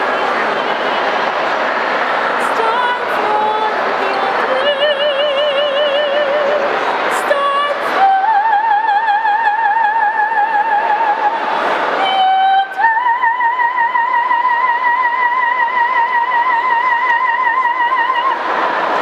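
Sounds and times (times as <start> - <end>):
woman singing operatically: 2.4 - 11.4, 12.0 - 18.4.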